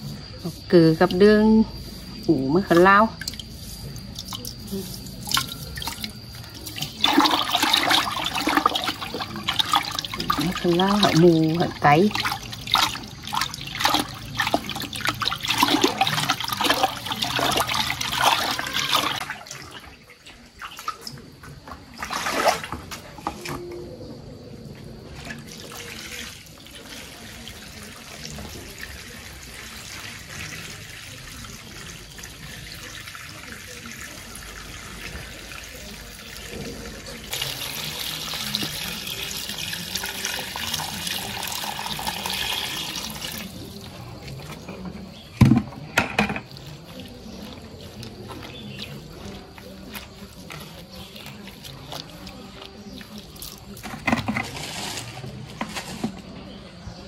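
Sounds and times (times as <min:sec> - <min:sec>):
running water: 0:00.0 - 0:23.7, 0:25.0 - 0:56.4
water splashing: 0:02.5 - 0:23.6, 0:25.2 - 0:56.3.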